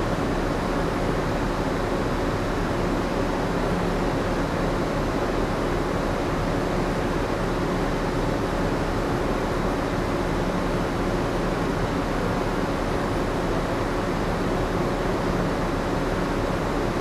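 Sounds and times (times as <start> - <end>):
ship machinery and ventilation hum: 0.0 - 17.0.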